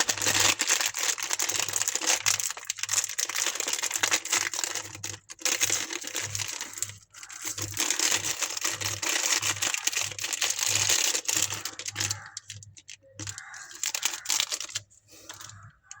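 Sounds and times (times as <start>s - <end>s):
candy wrapper crinkling: 0.0s - 16.0s.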